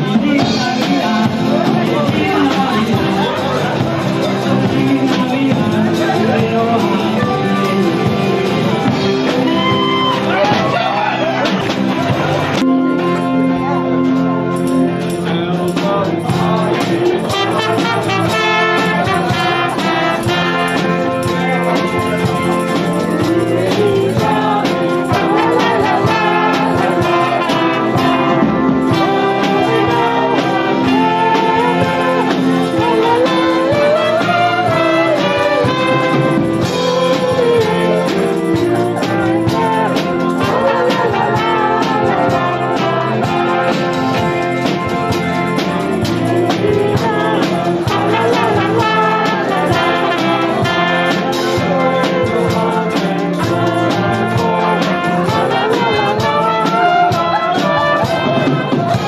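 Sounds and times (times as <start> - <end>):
acoustic guitar: 0.0 - 59.0
drums: 0.0 - 59.0
trumpet melody: 0.0 - 59.0.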